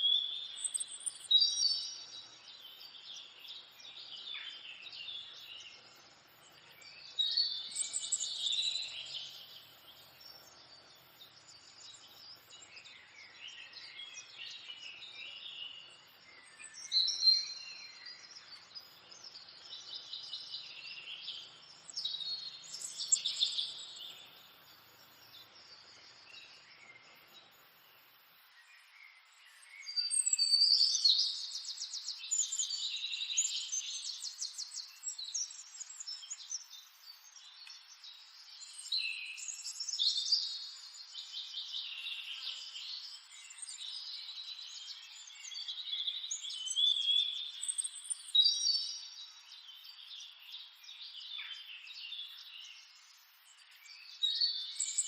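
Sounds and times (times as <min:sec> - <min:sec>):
birds chirping and trilling: 0:00.0 - 0:50.6.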